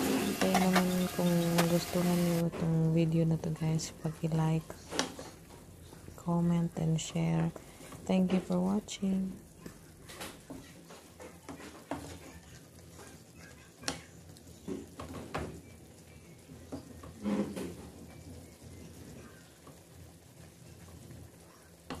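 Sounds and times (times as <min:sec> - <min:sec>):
food sizzling in a pan: 0:00.0 - 0:02.5, 0:03.8 - 0:22.0.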